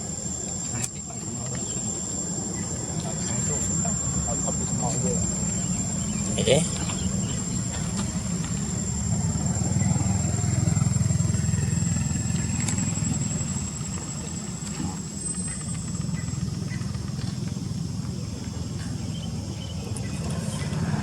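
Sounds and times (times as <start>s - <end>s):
engine rumbling: 0.0s - 21.0s
thin high-pitched whine: 0.0s - 21.0s.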